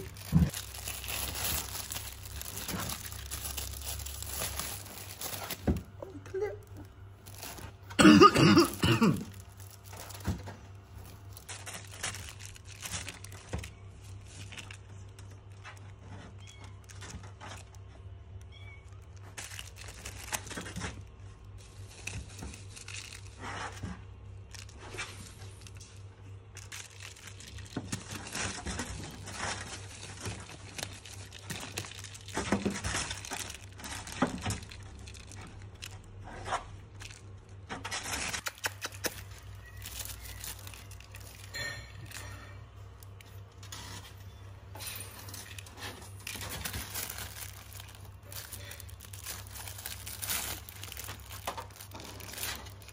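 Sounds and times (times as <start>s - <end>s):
low steady hum: 0.0s - 52.9s
plastic film crinkling: 0.0s - 52.9s.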